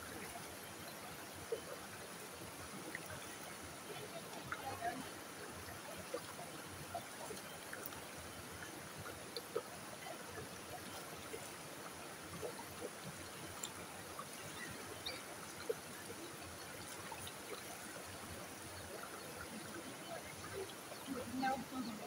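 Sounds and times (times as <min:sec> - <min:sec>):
creek water over rocks: 0:00.0 - 0:22.0
water trickles and plops: 0:00.0 - 0:22.0.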